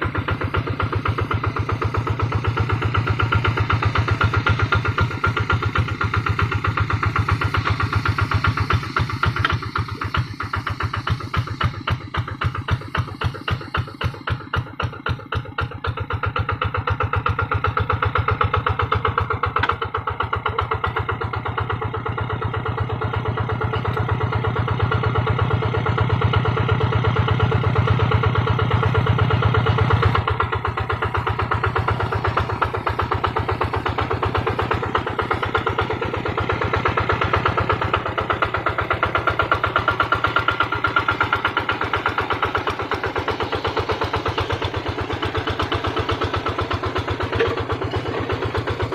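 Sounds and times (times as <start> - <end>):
diesel engine putt-putt: 0.0 - 48.9.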